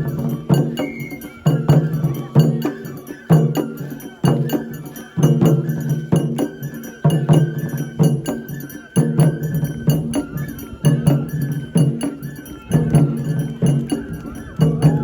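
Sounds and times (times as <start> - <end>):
drum beats ringing: 0.0 - 15.0.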